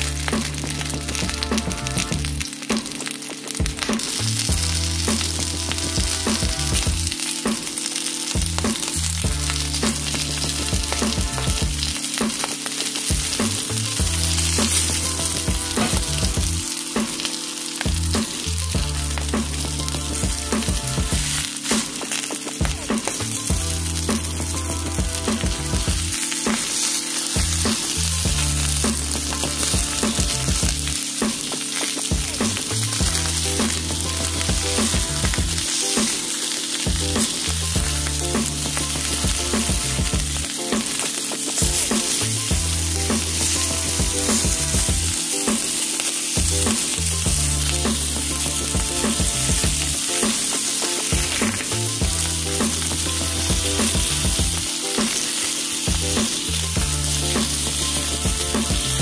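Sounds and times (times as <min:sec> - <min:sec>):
fish and eggplant sizzling: 0:00.0 - 0:59.0.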